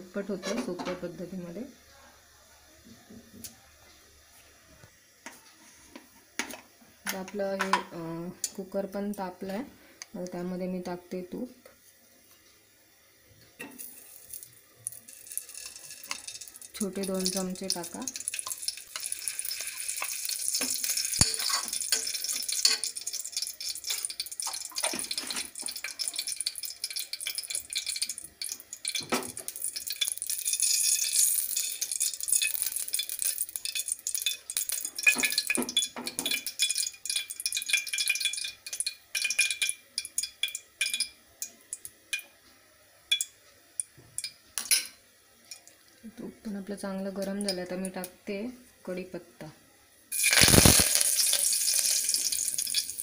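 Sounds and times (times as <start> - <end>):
ghee sizzling and crackling: 0.0 - 49.2, 49.9 - 53.0.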